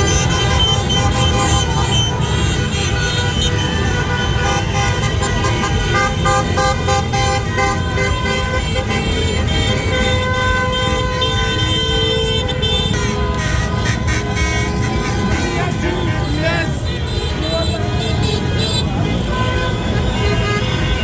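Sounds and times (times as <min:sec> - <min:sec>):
car horns honking: 0:00.0 - 0:21.0
traffic noise: 0:00.0 - 0:21.0.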